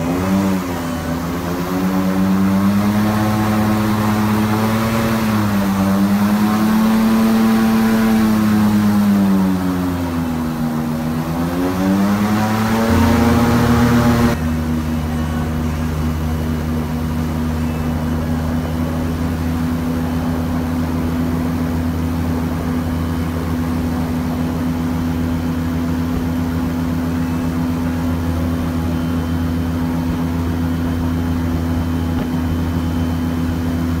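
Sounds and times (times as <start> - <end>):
airboat engine and propeller drone: 0.0 - 34.0.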